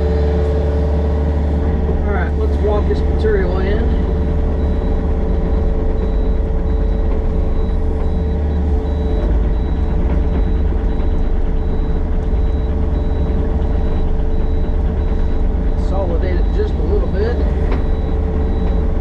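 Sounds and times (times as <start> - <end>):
excavator diesel engine running: 0.0 - 19.0
high-pitched beep: 3.4 - 19.0.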